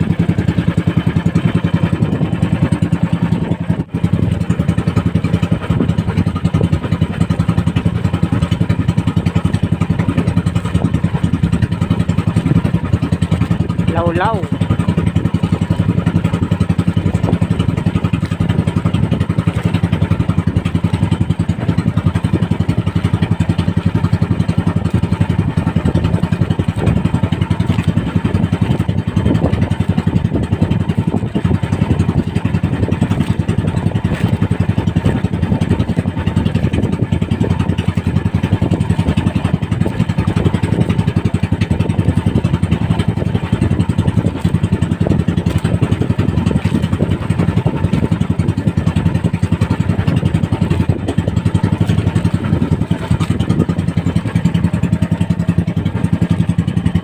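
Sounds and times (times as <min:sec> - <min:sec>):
small boat engine droning: 0:00.0 - 0:57.0.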